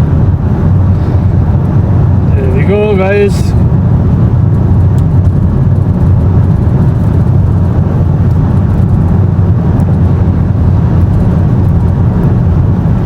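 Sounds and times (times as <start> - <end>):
car cabin road noise: 0.0 - 13.0.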